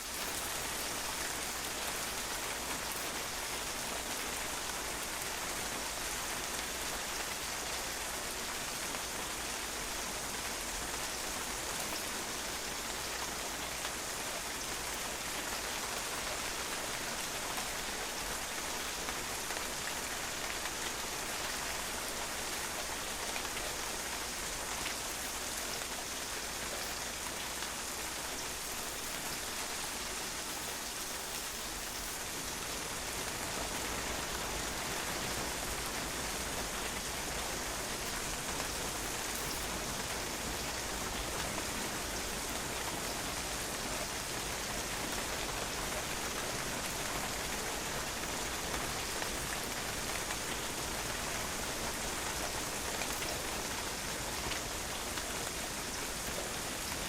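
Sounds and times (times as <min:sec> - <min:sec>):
rain pattering on patio: 0:00.0 - 0:57.0.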